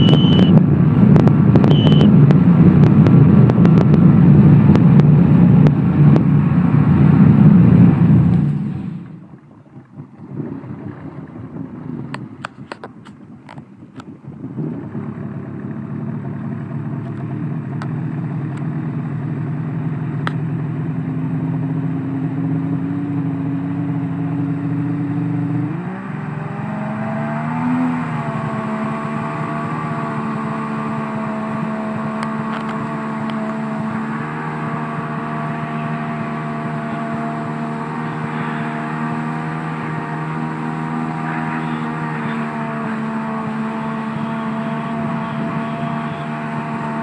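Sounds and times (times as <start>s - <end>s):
jet ski engine running: 0.0s - 47.0s.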